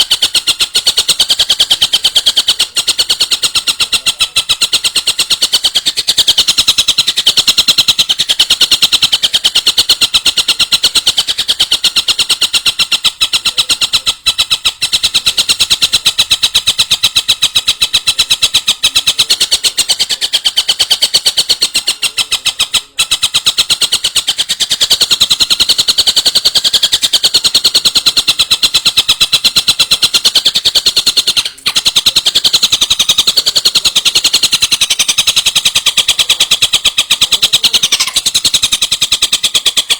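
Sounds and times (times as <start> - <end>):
bird rattling call: 0.0 - 39.9.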